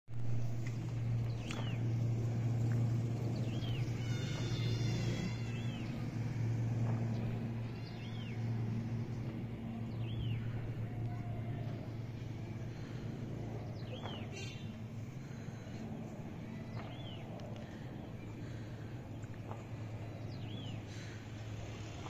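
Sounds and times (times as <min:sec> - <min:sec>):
distant airliner engines droning: 0:00.1 - 0:22.0.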